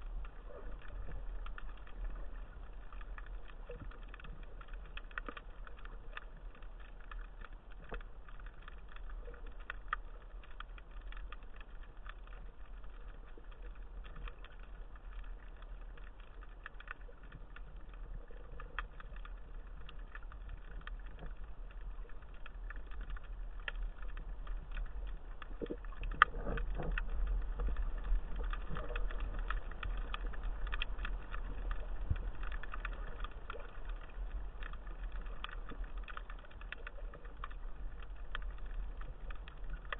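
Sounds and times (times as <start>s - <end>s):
faint underwater clicks: 0.0s - 39.9s
underwater rumble: 0.0s - 39.9s.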